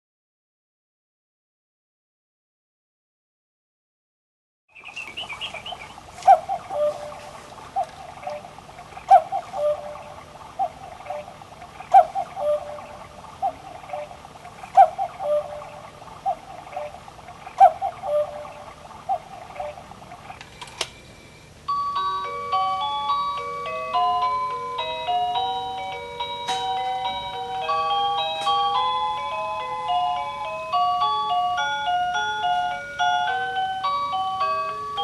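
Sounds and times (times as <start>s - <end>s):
two-note cuckoo call: 4.8s - 35.0s.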